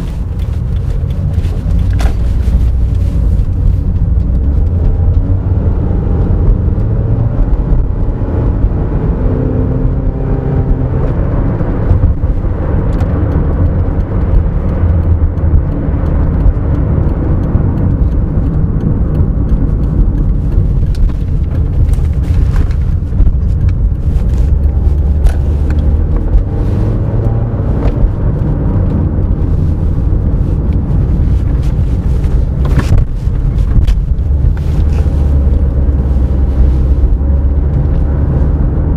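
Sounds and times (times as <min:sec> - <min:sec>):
car engine running: 0:00.0 - 0:38.9
tyre and road rumble: 0:00.0 - 0:38.9.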